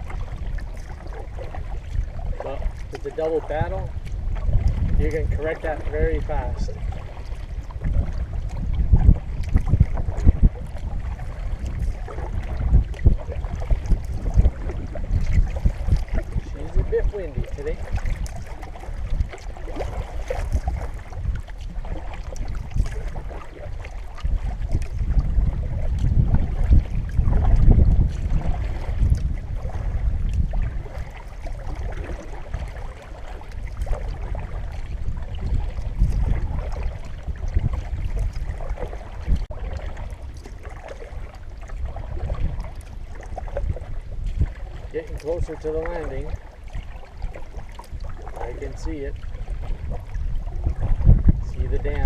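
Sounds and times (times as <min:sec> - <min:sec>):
canoe paddle in water: 0:00.0 - 0:52.0
wind buffeting microphone: 0:00.0 - 0:52.0.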